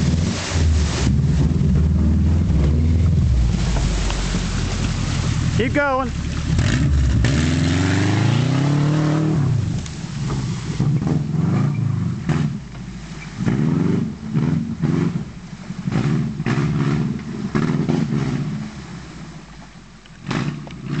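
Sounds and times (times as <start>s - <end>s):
car engine revving hard: 0.0s - 19.2s, 20.2s - 21.0s.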